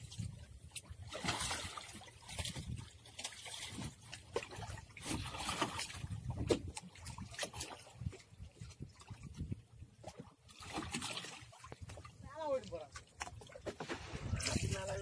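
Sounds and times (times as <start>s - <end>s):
water lapping around a boat: 0.0s - 15.0s.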